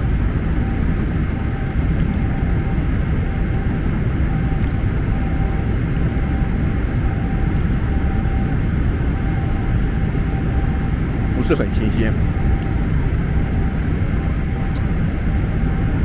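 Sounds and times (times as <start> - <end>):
airliner cabin rumble: 0.0 - 16.0
faint steady tone: 0.0 - 16.0.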